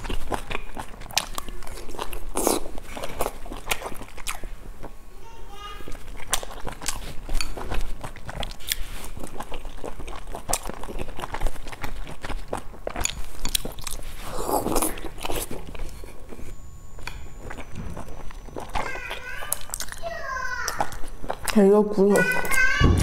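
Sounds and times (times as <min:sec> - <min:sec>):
wet chewing smacks: 0:00.0 - 0:05.0, 0:05.9 - 0:21.8.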